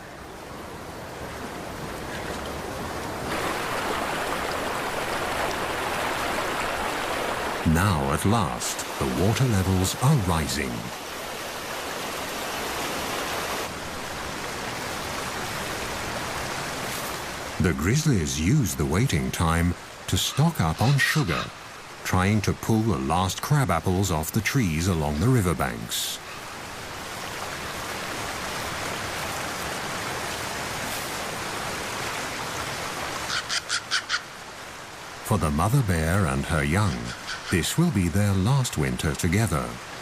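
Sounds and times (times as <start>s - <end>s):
river rushing: 0.0s - 40.0s.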